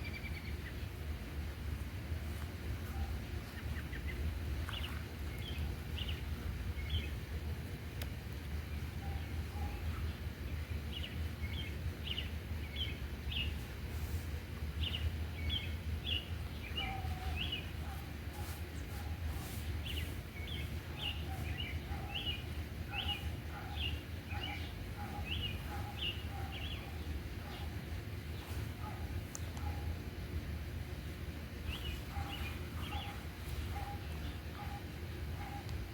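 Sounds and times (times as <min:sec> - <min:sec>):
bird chirping: 0:00.0 - 0:01.0, 0:02.9 - 0:07.2, 0:08.7 - 0:13.7, 0:14.8 - 0:29.9, 0:31.6 - 0:35.7
steady low rumble: 0:00.0 - 0:35.9.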